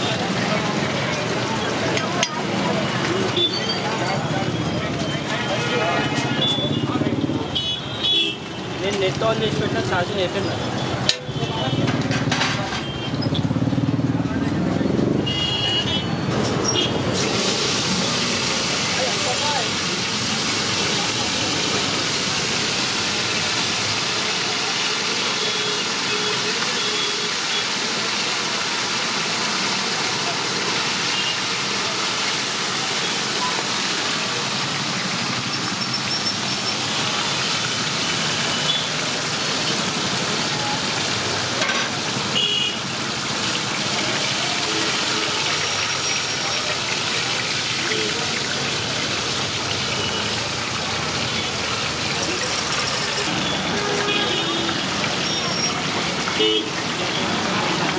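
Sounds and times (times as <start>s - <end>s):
fish deep-frying in oil: 0.0s - 6.9s, 7.5s - 13.9s, 16.6s - 57.9s.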